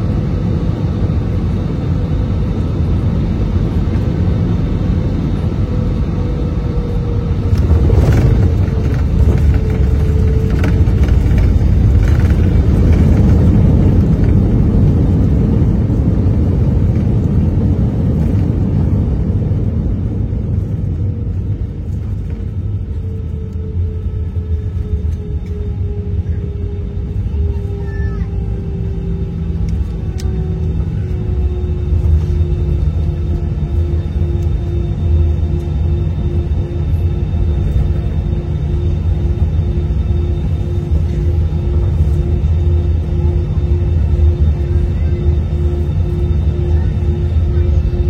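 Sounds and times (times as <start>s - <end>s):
airplane cabin rumble: 0.0s - 48.0s.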